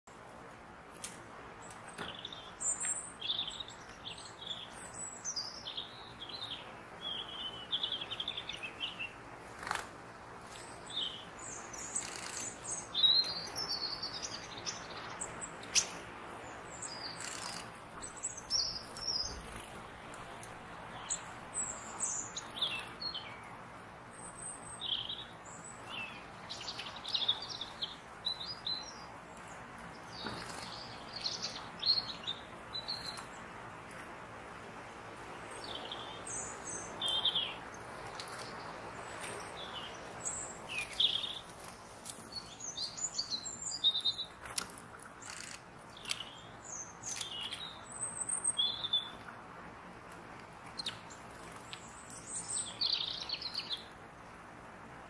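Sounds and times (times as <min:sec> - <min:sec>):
faint steady hiss: 0:00.1 - 0:55.0
songbirds chirping: 0:00.1 - 0:55.0.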